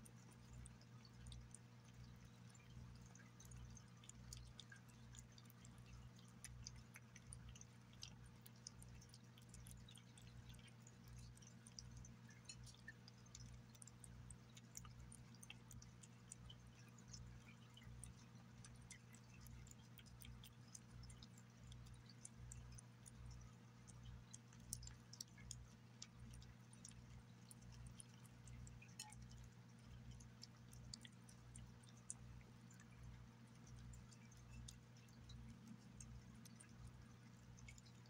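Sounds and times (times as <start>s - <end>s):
cat chewing and lapping food: 0.0s - 38.0s.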